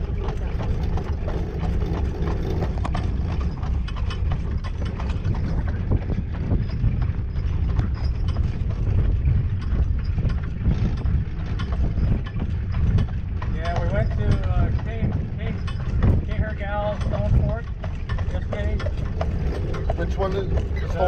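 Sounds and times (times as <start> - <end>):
cart rolling rumble: 0.0 - 21.0
horse hooves clip-clopping on pavement: 0.0 - 21.0.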